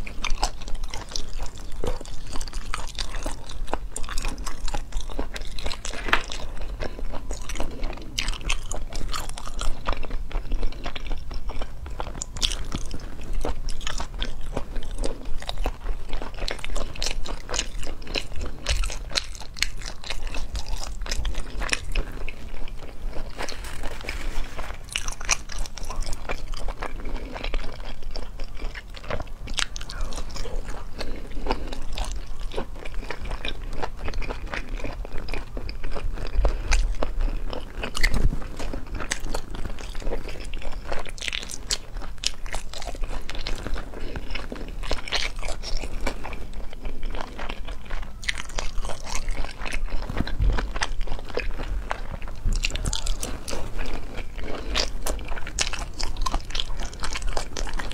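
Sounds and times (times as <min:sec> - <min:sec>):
person biting and chewing: 0:00.0 - 0:57.9
wet crunchy mouth clicks: 0:00.0 - 0:57.9.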